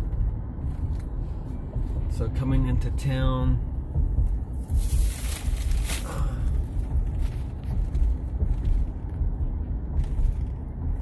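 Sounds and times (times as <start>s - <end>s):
vehicle cabin road rumble: 0.0s - 11.0s.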